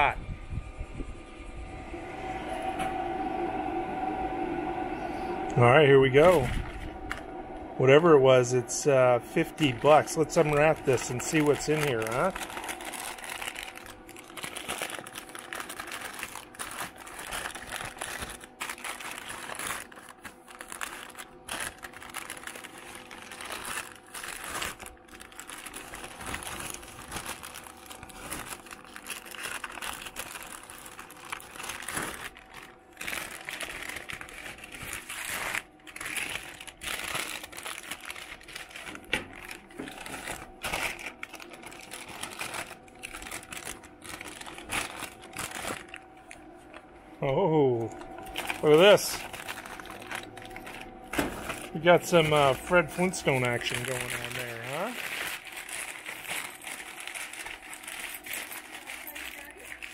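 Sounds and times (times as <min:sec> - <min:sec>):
paper crinkling and rustling: 0:08.9 - 0:47.0, 0:47.8 - 0:59.9.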